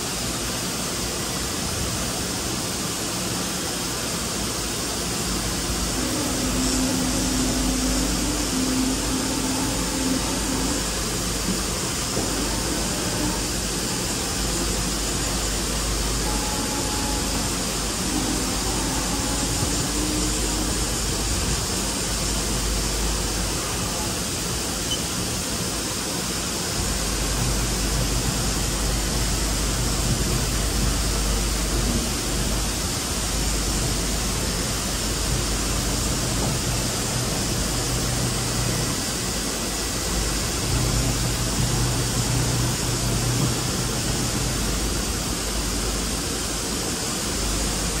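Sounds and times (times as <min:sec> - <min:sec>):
machine hiss and low hum: 0:00.0 - 0:48.0.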